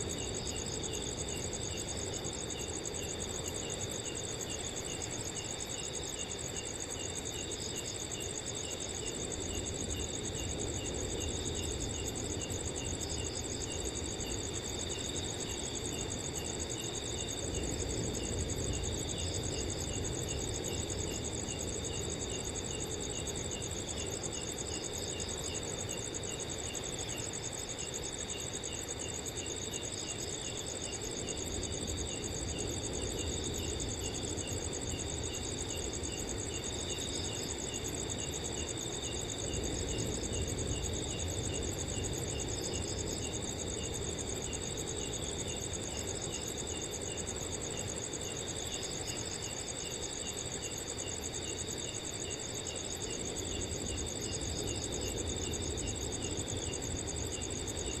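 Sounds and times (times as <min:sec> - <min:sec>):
cricket chirps: 0:00.0 - 0:58.0
crickets trilling: 0:00.0 - 0:58.0.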